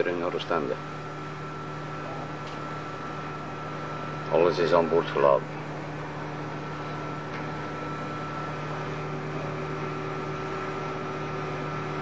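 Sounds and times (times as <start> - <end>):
ship engine low hum: 0.0 - 12.0.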